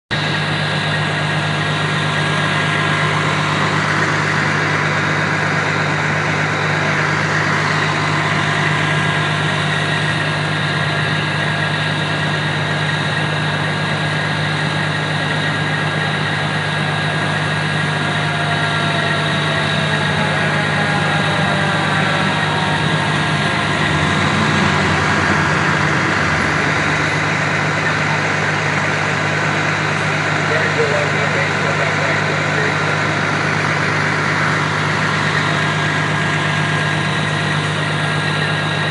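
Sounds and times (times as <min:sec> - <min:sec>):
diesel engine idling: 0:00.1 - 0:38.9.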